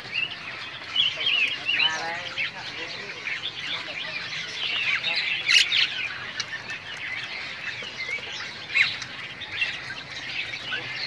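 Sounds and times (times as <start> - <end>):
caged songbirds chirping: 0.0 - 11.0
sharp bird calls: 0.0 - 11.0.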